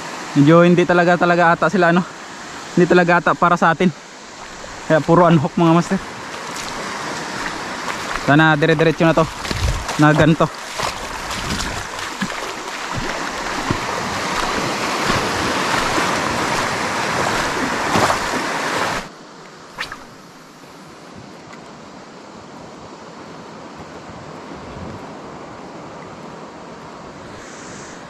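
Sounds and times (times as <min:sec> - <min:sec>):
wind and surf rush: 0:00.0 - 0:28.0.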